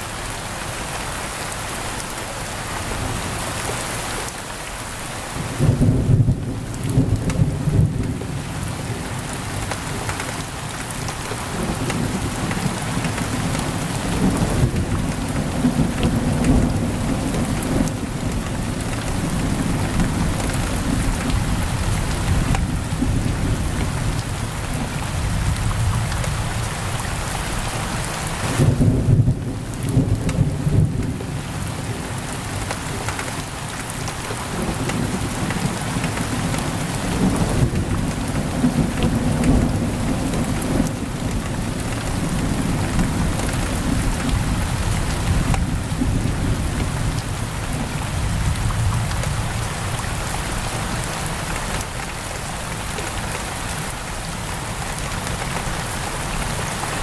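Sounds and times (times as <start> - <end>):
heavy rain on window: 0.0 - 57.0.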